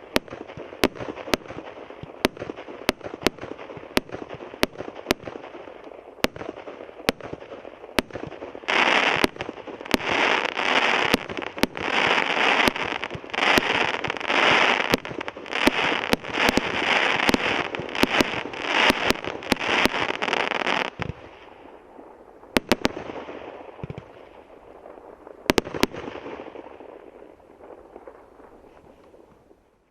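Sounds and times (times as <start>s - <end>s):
fireworks shots and bangs: 0.0s - 21.5s, 22.5s - 28.7s
fireworks rumble: 0.0s - 29.9s.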